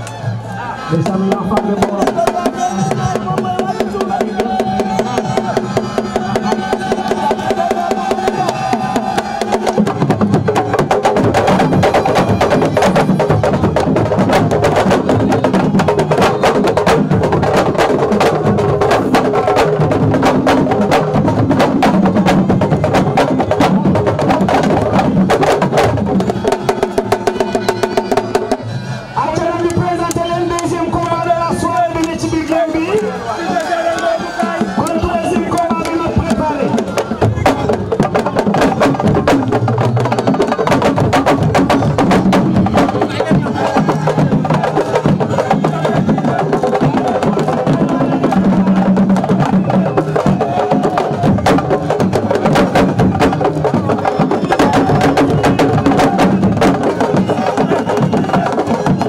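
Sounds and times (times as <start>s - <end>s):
fast drumming: 0.9s - 59.0s.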